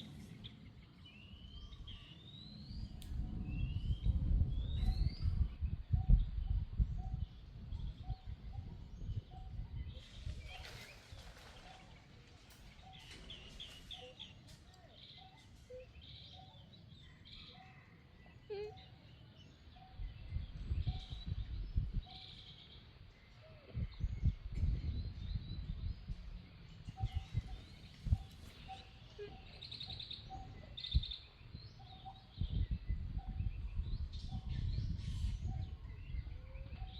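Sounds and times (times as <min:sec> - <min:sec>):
bird calls: 0:04.7 - 0:36.9.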